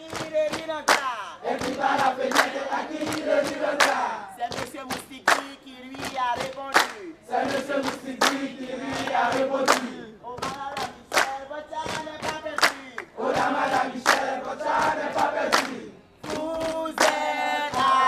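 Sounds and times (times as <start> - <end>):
sharp clap-like hits: 0.0 - 18.0
group chanting in unison: 0.2 - 4.6, 6.8 - 10.2, 10.9 - 18.0.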